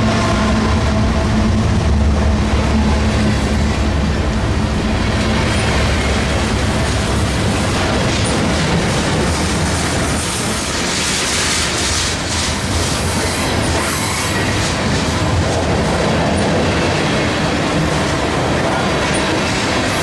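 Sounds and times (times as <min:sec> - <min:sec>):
diesel locomotive engine drone: 0:00.0 - 0:20.0
train cars rumbling and rattling: 0:00.0 - 0:20.0
wheels hissing on rails: 0:00.0 - 0:20.0.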